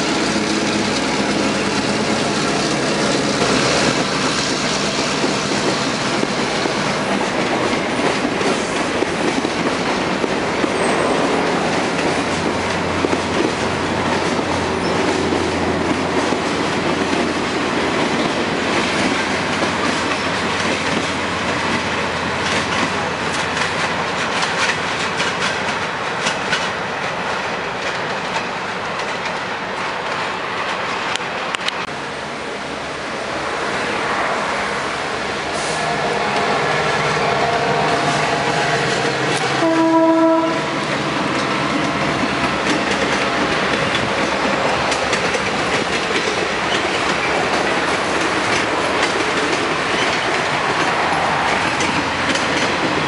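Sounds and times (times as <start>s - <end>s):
wheels clicking over rail joints: 0.0s - 31.9s, 38.8s - 53.0s
train cars rumbling: 0.0s - 53.0s.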